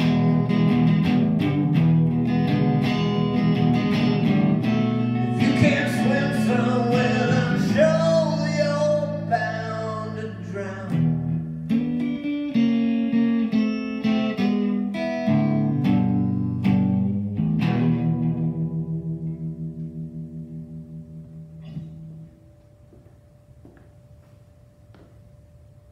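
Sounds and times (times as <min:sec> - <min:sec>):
electric guitar through amplifier: 0:00.0 - 0:25.9.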